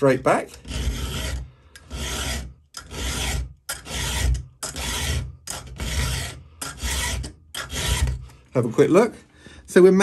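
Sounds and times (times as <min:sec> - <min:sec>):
file rasping on steel: 0:00.0 - 0:08.4.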